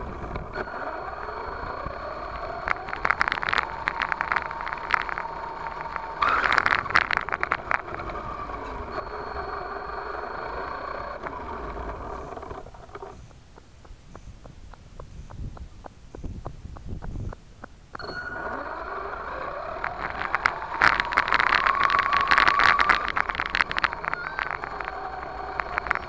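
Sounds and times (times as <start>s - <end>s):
toy truck motor whine: 0.0s - 13.3s, 18.0s - 26.0s
gravel crackling under tyres: 0.0s - 26.0s.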